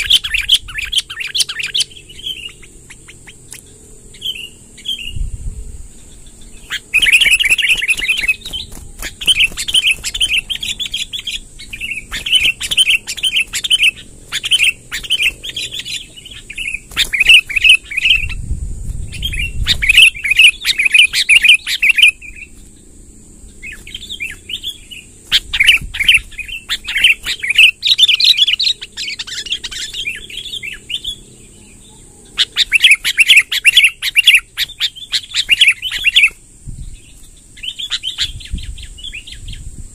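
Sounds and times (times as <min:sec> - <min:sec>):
bird chattering warbling song: 0:00.0 - 0:05.3, 0:05.9 - 0:22.8, 0:23.5 - 0:39.7
faint high whine: 0:00.0 - 0:39.9.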